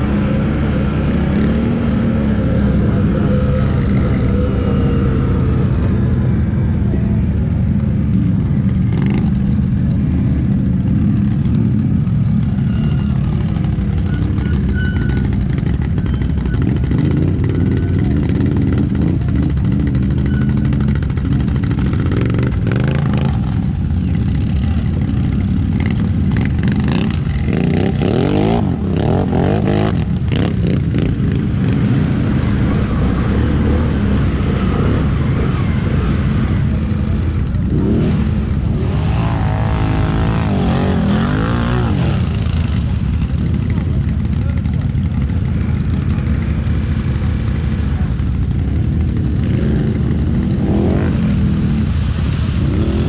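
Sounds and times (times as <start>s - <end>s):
atv engine running: 0.0s - 52.5s.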